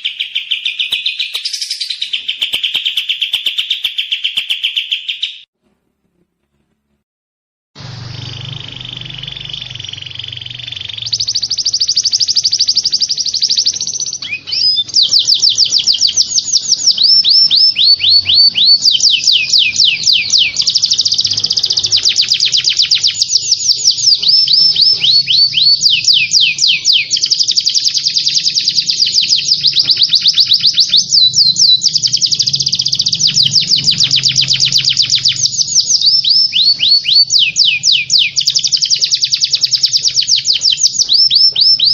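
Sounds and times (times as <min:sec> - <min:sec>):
songbird singing fast trills: 0:00.0 - 0:05.5, 0:08.0 - 0:41.9.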